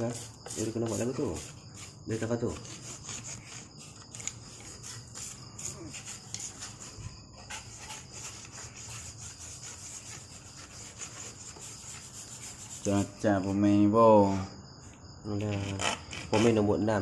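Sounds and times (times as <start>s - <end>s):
hand sanding wood: 0.0s - 14.5s.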